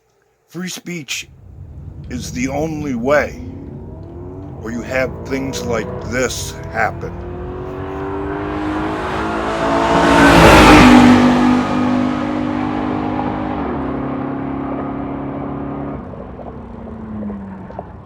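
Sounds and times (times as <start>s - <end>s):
vehicle engine passing by: 1.2s - 18.0s.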